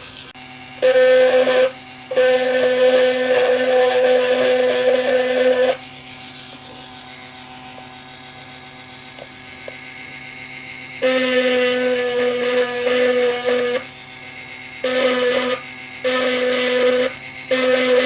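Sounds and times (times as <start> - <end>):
rotary tool high whine: 0.0 - 18.0.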